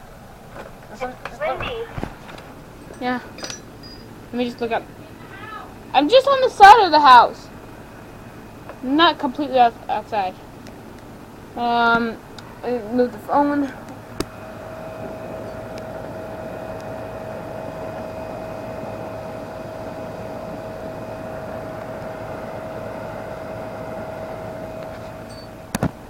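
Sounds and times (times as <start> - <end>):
machine-like hum: 0.0 - 26.0.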